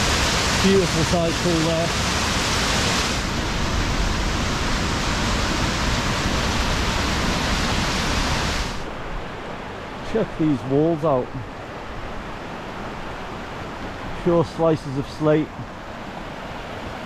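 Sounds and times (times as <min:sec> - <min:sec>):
shallow stream: 0:00.0 - 0:17.0
waterfall cascading over rocks: 0:00.0 - 0:17.0.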